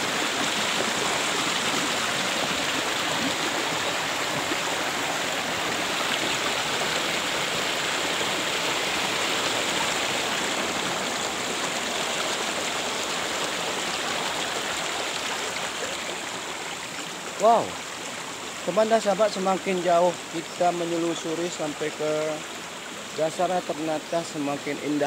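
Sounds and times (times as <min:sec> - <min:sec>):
mountain stream splashing over rocks: 0:00.0 - 0:25.0.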